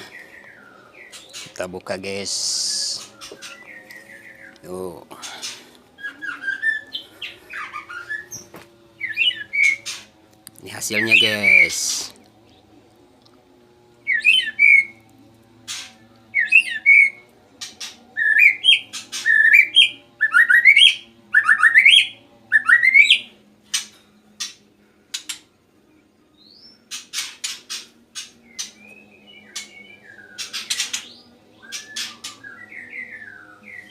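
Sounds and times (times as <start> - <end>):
songbird whistling song: 0.0 - 1.6, 2.4 - 10.1, 10.9 - 12.7, 14.0 - 15.0, 15.7 - 25.5, 26.2 - 33.9.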